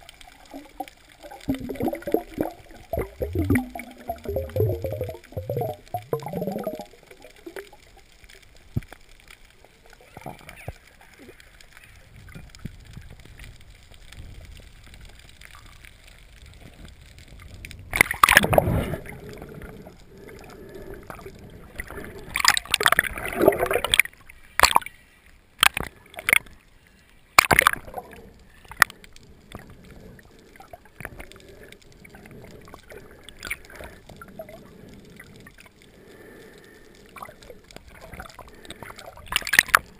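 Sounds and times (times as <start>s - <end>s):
water splashing: 0.0s - 12.6s, 17.8s - 26.6s, 27.3s - 39.9s
water sloshing underwater: 0.0s - 39.9s.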